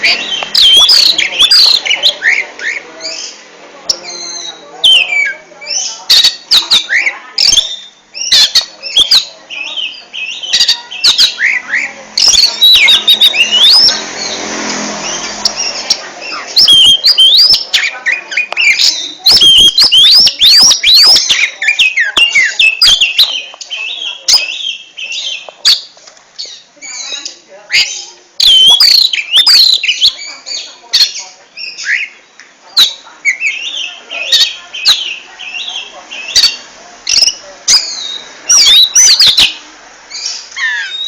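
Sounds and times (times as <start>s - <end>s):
bird singing whistles and chatter: 0.0s - 41.0s.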